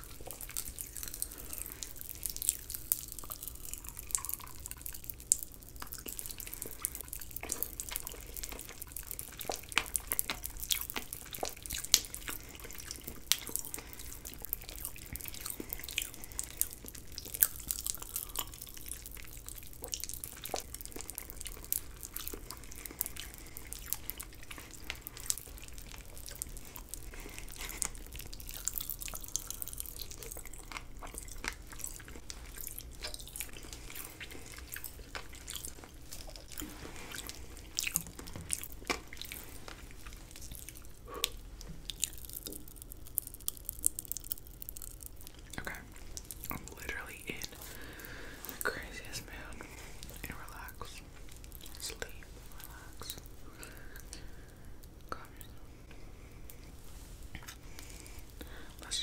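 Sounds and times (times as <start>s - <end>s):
wet mouth sucking and licking: 0.0s - 55.3s.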